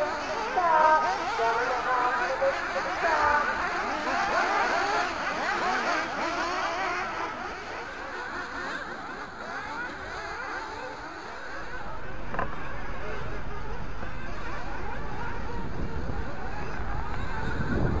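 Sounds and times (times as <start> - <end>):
distant model car engines revving: 0.0 - 18.0.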